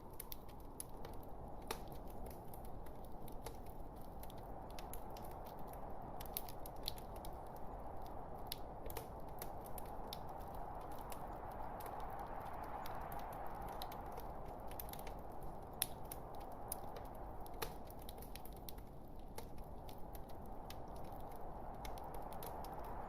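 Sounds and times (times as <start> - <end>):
log fire crackling and popping: 0.0 - 23.0.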